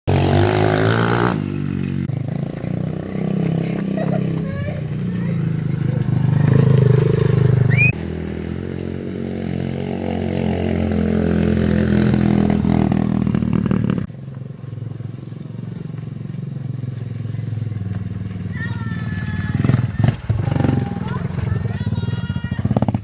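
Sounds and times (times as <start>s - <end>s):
mini bike engine revving: 0.1s - 23.0s.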